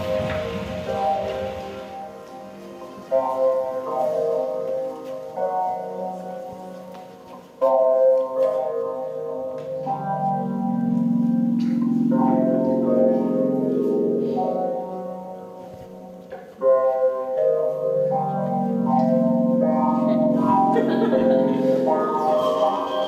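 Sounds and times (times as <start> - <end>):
held keyboard chords: 0.0 - 23.0.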